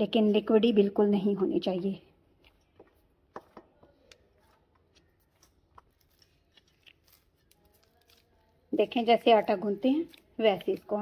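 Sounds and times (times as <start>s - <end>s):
hands kneading dough: 2.1s - 11.0s.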